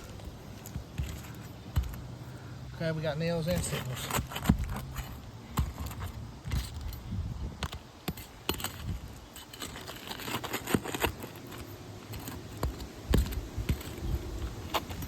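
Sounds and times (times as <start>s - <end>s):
hand tools on roof shingles: 0.0s - 2.2s, 3.0s - 15.0s.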